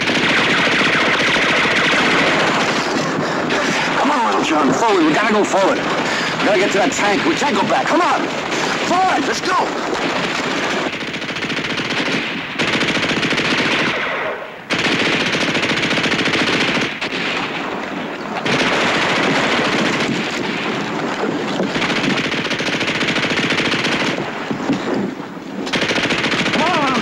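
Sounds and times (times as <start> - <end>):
machine-gun fire: 0.0 - 27.0.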